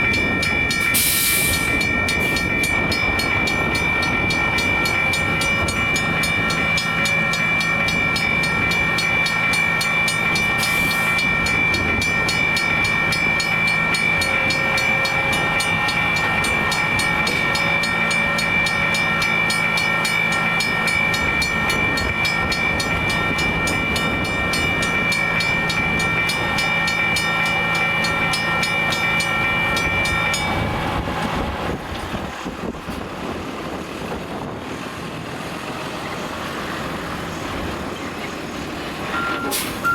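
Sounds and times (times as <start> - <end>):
railroad crossing bell ringing: 0.0 - 39.9.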